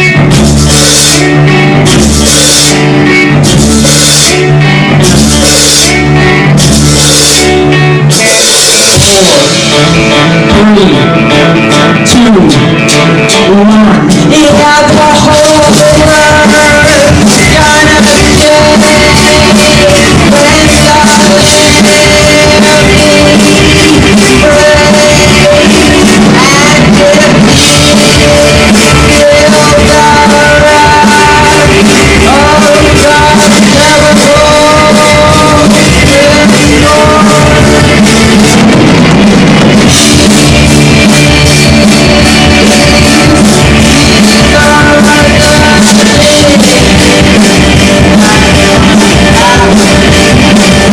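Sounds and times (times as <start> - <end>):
live rock band playing: 0.0 - 50.9
person singing: 0.0 - 50.9.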